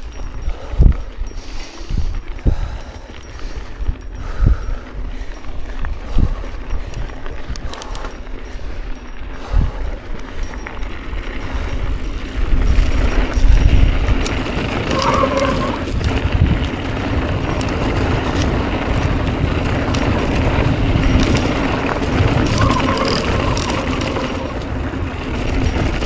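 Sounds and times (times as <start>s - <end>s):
wind rushing over microphone: 0.0s - 8.0s, 9.4s - 26.0s
bike rattling: 0.0s - 26.0s
tyre noise on dirt: 2.0s - 26.0s.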